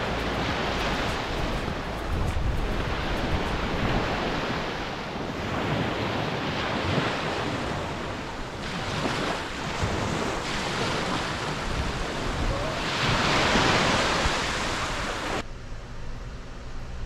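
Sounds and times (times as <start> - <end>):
surf washing onto beach: 0.0 - 15.4
wind buffeting microphone: 0.0 - 15.4.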